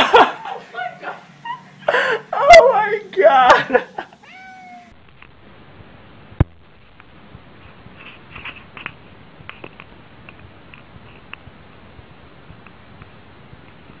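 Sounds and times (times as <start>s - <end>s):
low steady hiss: 0.0s - 14.0s.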